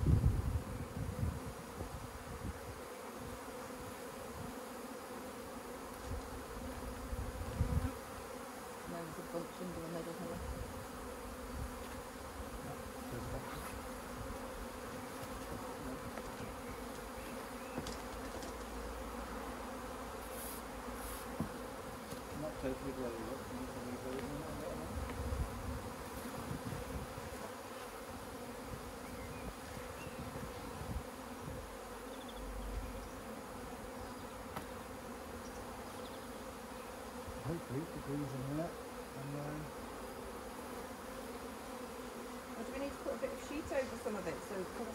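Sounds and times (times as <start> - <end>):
bee swarm humming: 0.0 - 44.9.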